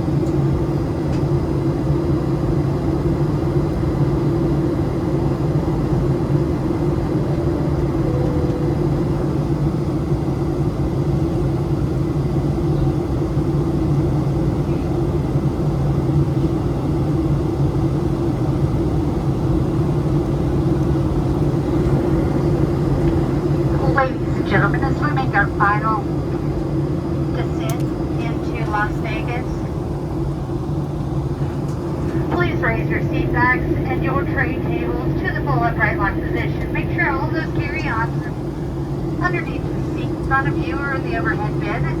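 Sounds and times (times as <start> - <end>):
jet engine and airflow rumble: 0.0 - 42.0
steady low hum: 0.0 - 42.0.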